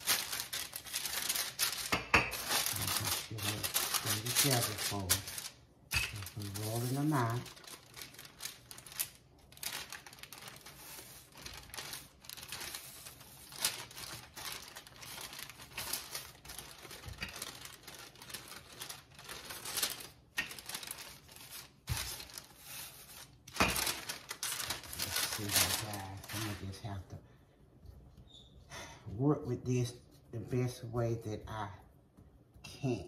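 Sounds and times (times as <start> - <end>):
parchment paper crinkling: 0.0 - 27.0.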